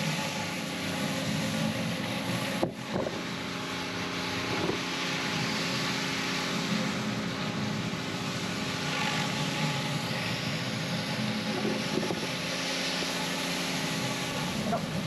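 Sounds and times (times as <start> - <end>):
pressure washer engine hum: 0.0 - 15.0
water spraying hiss: 0.0 - 15.0.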